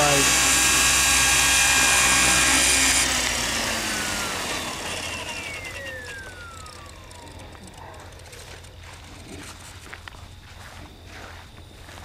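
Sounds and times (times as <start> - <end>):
rc helicopter rotor running: 0.0 - 10.9
rotor winding down whine: 0.0 - 10.9.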